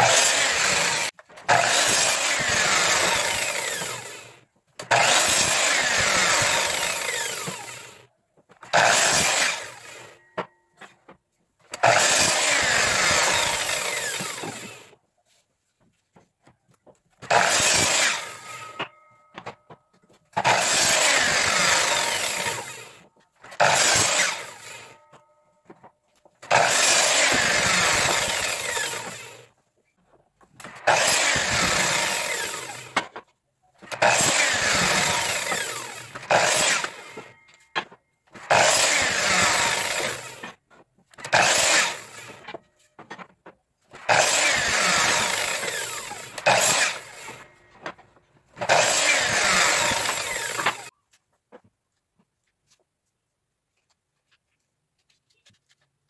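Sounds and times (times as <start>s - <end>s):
power saw cutting wood: 0.0s - 10.9s, 11.7s - 15.0s, 17.2s - 19.6s, 20.3s - 29.6s, 30.5s - 43.3s, 43.9s - 50.9s.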